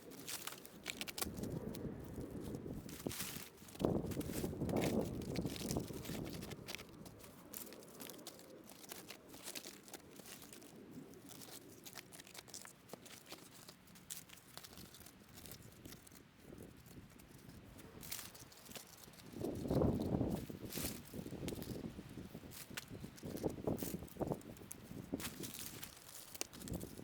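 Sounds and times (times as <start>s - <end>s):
faint crackling and rustling: 0.0s - 27.0s.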